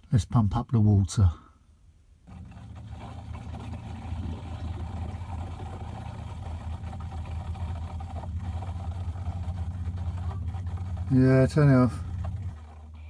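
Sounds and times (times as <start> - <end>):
water pump humming: 2.2 - 13.0.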